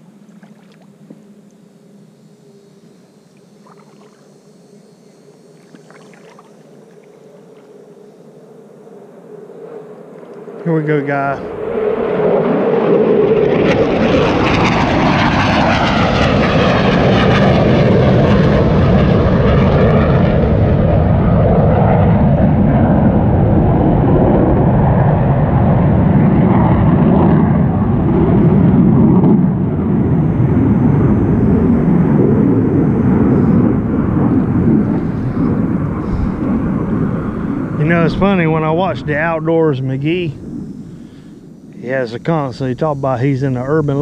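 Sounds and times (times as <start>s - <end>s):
military aircraft roaring overhead: 0.0s - 44.0s.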